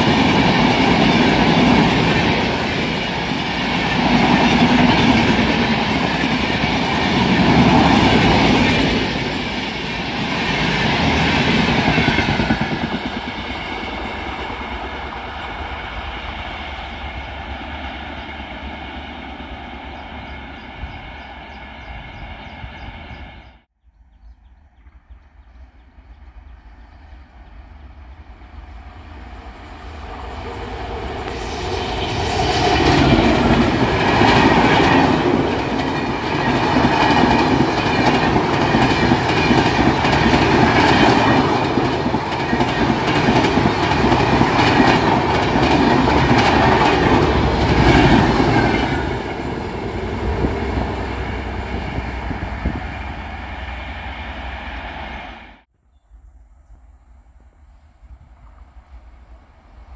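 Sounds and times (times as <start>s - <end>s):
passenger train passing: 0.0s - 23.7s, 24.6s - 55.7s, 57.3s - 59.9s.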